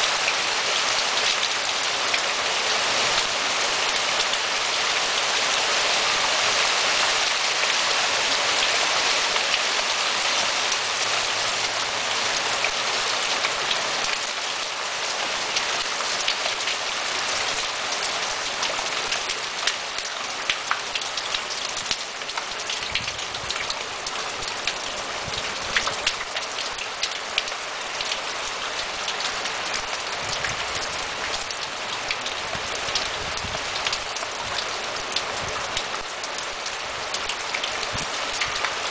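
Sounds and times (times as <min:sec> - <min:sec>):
heavy rain and hail on stone: 0:00.0 - 0:38.9.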